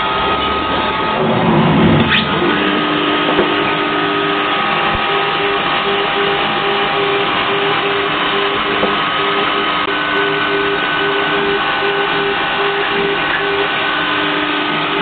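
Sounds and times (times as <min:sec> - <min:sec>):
machine humming and hissing: 0:00.0 - 0:15.0
pulsing tone: 0:00.0 - 0:15.0
whining tones: 0:00.0 - 0:15.0.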